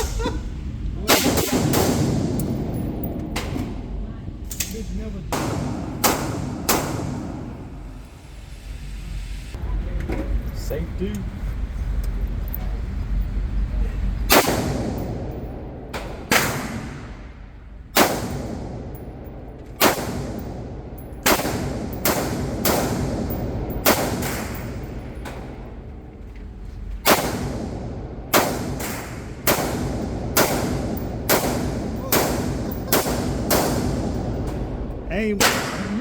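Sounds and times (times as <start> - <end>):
gunshots echoing indoors: 0.0 - 8.1, 14.3 - 26.1, 26.9 - 36.0.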